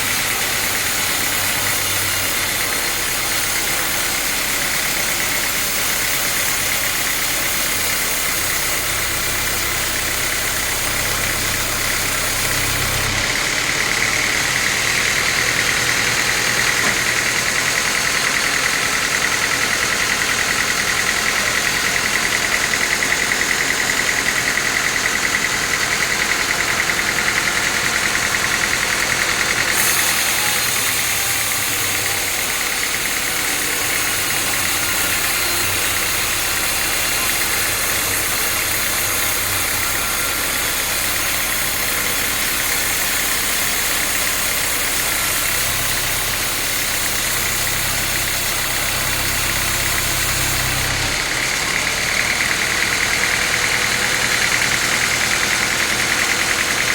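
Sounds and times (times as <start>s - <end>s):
sawmill saw running: 0.0s - 56.9s.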